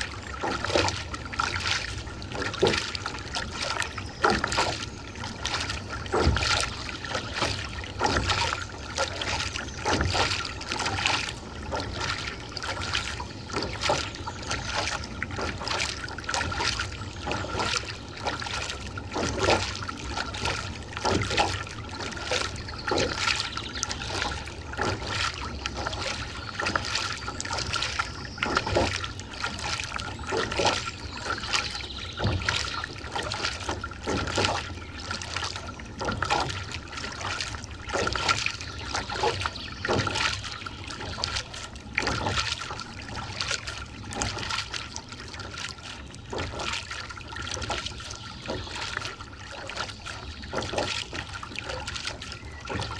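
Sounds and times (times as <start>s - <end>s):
paddle strokes in water: 0.0s - 52.9s
water dripping off paddle: 0.0s - 52.9s.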